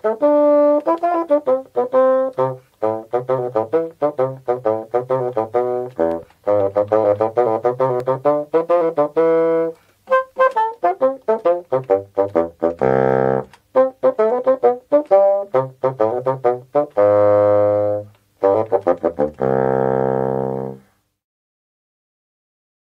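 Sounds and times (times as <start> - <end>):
wind instruments playing theme music: 0.0 - 20.8.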